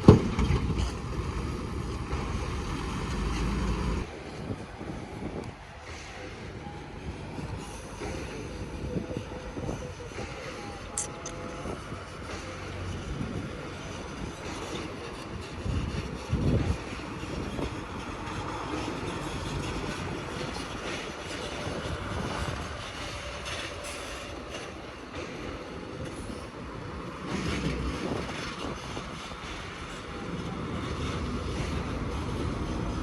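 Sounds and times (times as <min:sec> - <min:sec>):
heavy construction machinery: 0:00.0 - 0:33.0.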